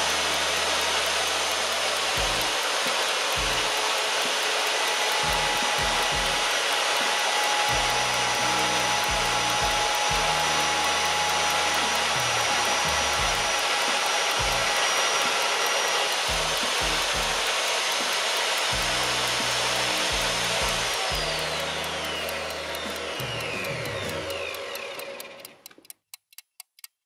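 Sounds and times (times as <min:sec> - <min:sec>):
magnetic drill motor whine: 0:00.0 - 0:25.6
drill bit cutting steel: 0:00.0 - 0:25.7.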